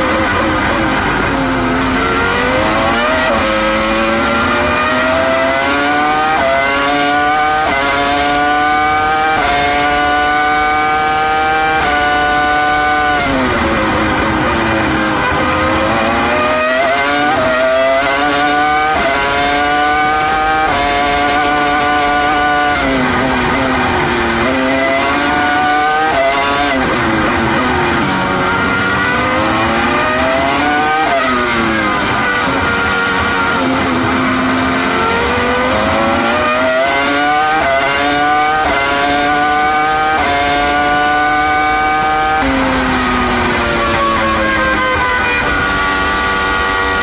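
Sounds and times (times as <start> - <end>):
racing car engine: 0.0 - 47.0.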